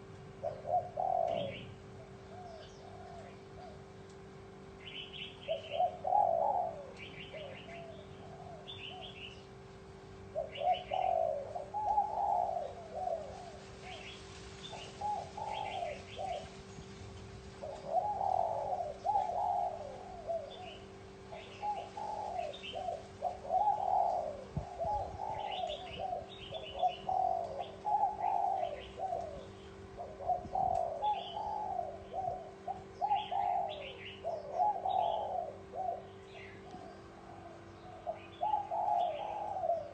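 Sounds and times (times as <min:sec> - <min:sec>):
dove cooing: 0:00.0 - 0:39.9
faint steady hum: 0:00.0 - 0:39.9.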